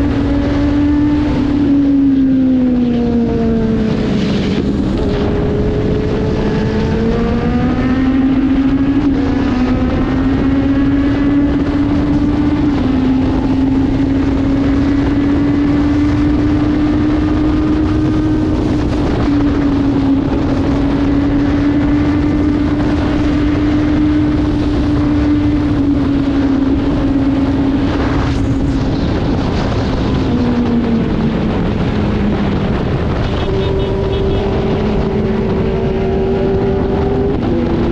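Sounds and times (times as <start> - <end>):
motorcycle engine at high revs: 0.0 - 37.9
wind rush on microphone: 0.0 - 37.9.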